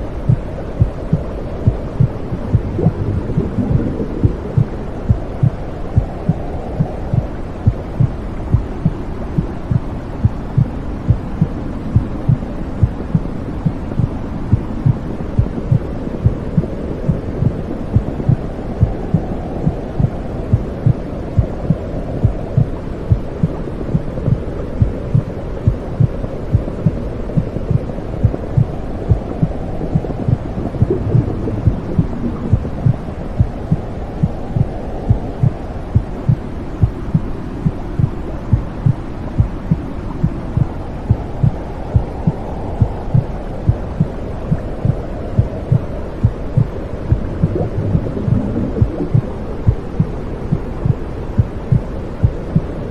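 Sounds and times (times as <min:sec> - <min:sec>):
low whooshing rumble: 0:00.0 - 0:52.8
steady heartbeat: 0:00.0 - 0:52.8.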